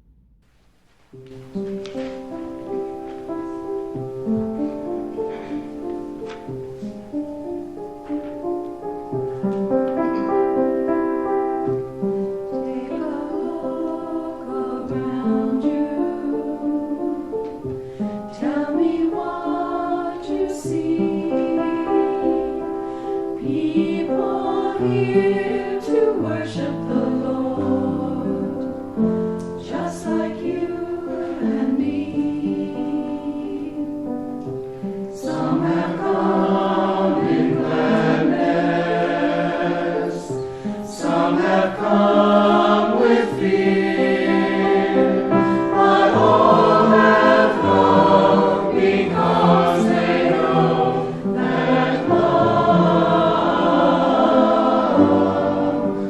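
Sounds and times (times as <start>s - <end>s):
choir singing a hymn: 1.4s - 56.0s.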